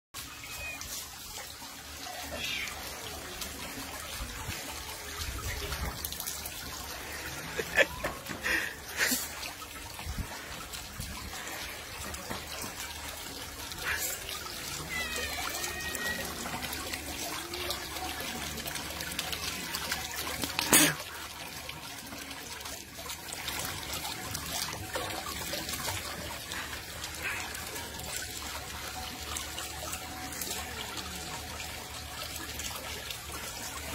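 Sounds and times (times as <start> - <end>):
fountain water trickling and splashing: 0.2 - 33.9.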